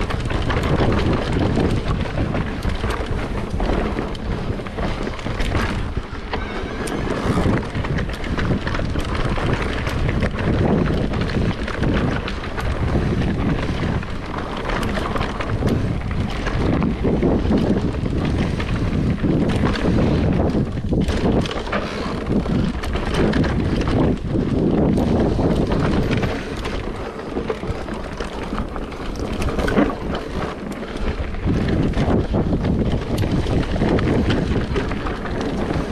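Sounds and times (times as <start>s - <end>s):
bike clicks and rattles: 0.0s - 35.9s
bike tyres on dirt: 0.0s - 35.9s
wind buffeting microphone: 0.0s - 35.9s.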